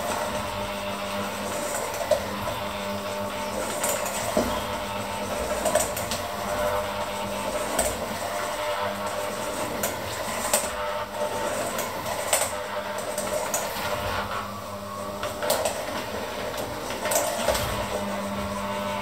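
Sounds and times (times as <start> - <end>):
electric hand mixer running: 0.0 - 19.0.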